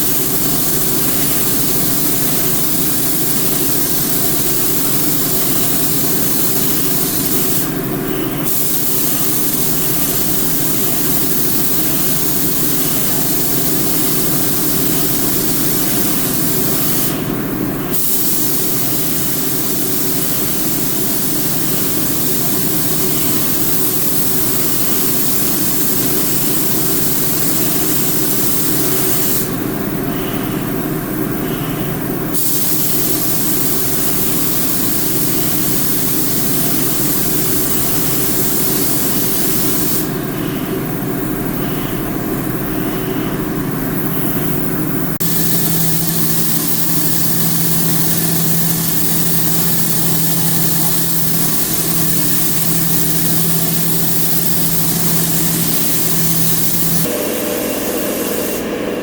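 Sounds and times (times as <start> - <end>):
hiss of spraying: 0.0 - 7.8, 8.4 - 17.3, 17.9 - 29.6, 32.4 - 40.2, 45.2 - 59.0
machine hum: 0.0 - 59.0.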